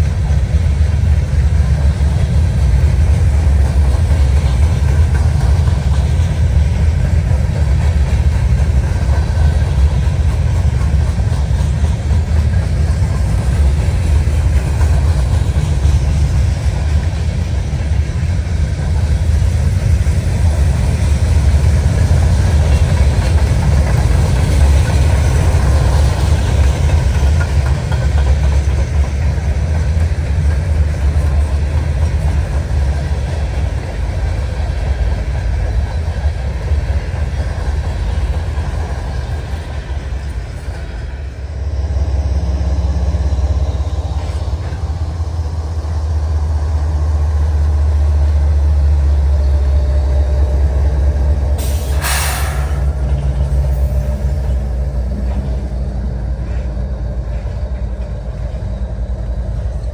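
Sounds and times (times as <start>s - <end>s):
passing train rumbling: 0.0s - 59.9s.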